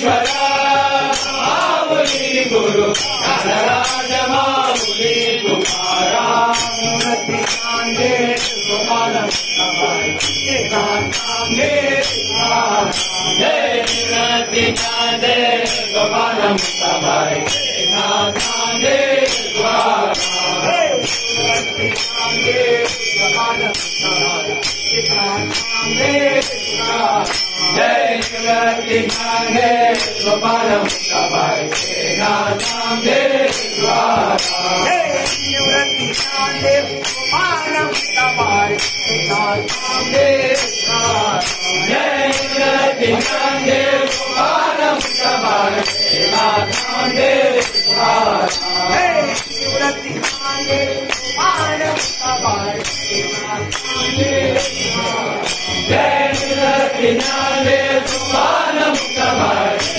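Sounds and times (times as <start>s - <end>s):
hand bells struck: 0.0s - 59.9s
men chanting a devotional hymn: 0.0s - 59.9s.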